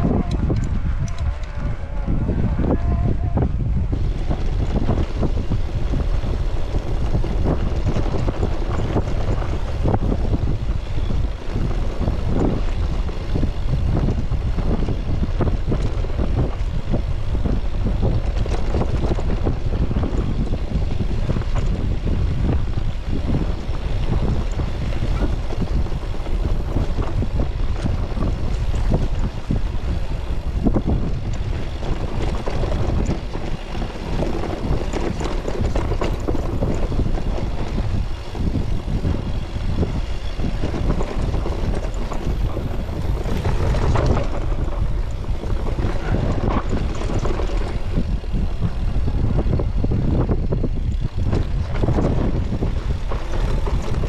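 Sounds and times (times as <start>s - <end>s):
bike rattling over rough ground: 0.0s - 54.0s
wind buffeting microphone: 0.0s - 54.0s.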